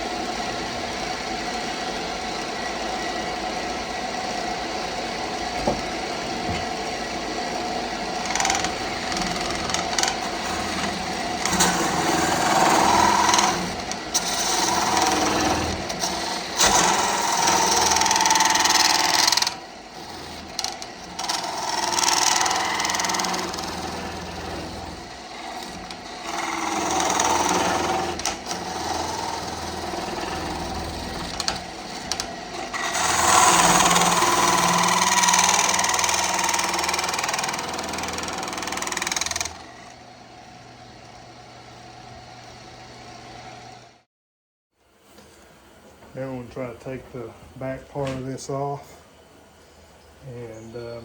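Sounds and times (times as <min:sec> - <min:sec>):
gouge cutting spinning wood: 0:00.0 - 0:44.0
wood lathe running: 0:00.0 - 0:44.1.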